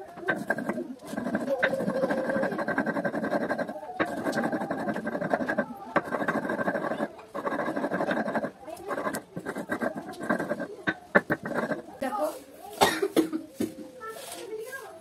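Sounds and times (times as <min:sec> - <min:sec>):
stone pestle scraping on stone slab: 0:00.0 - 0:12.1.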